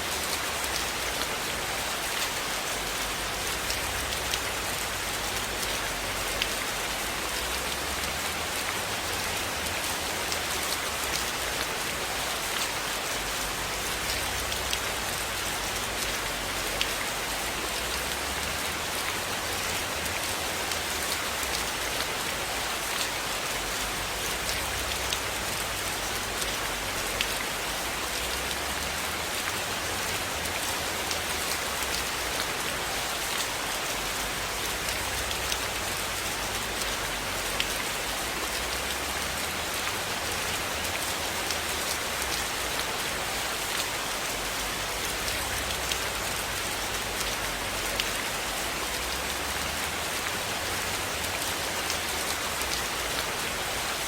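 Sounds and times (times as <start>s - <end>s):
rain hissing on a cabin: 0.0s - 54.0s.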